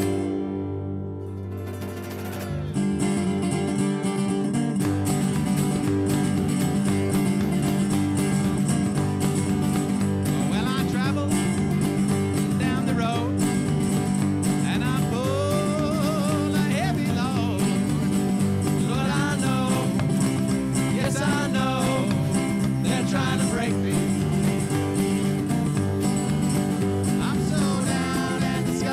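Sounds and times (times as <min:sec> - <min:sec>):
blues band playing: 0:00.0 - 0:28.9.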